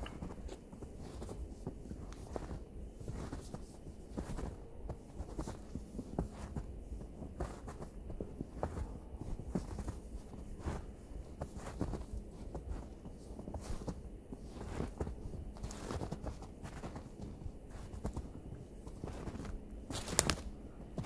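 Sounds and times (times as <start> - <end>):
footsteps crunching in snow: 0.0 - 21.0.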